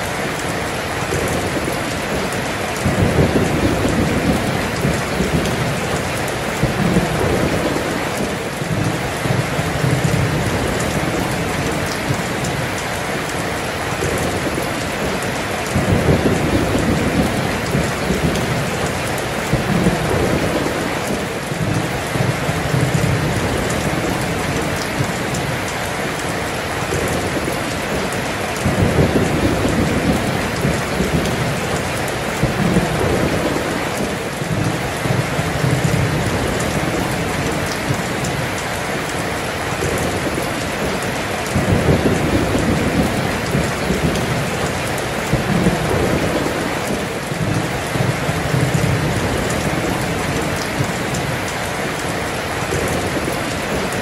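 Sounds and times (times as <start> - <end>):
heavy rain pouring: 0.0 - 54.0
rolling thunder: 0.5 - 12.8, 13.9 - 25.7, 26.7 - 38.8, 39.7 - 51.5.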